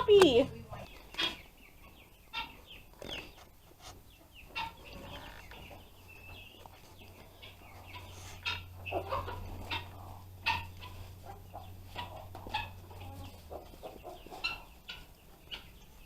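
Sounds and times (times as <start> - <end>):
chicken clucking faintly: 1.1 - 16.0.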